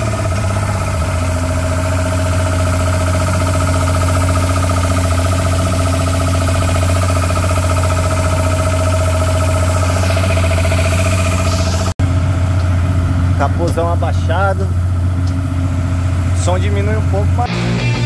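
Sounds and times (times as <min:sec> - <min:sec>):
boat engine idling: 0:00.0 - 0:18.0
steady whine: 0:00.0 - 0:18.0.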